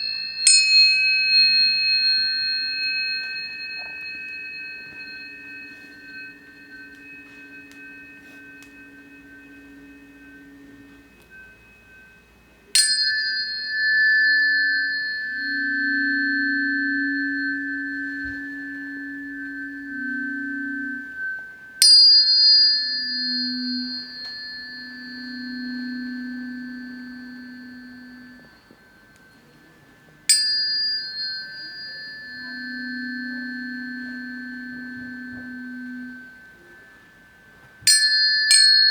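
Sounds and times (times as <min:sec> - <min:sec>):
tuning forks ringing: 0:00.0 - 0:38.9.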